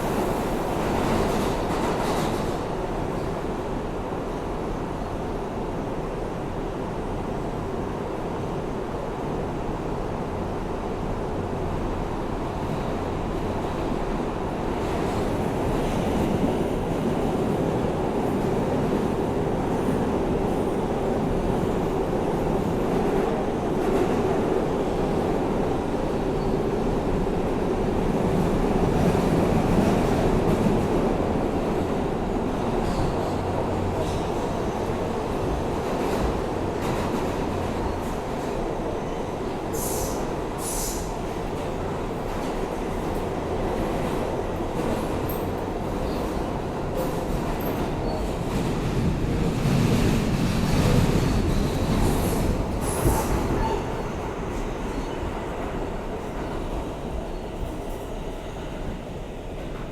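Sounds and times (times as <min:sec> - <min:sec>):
subway wheel and track rumble: 0:00.0 - 0:59.9.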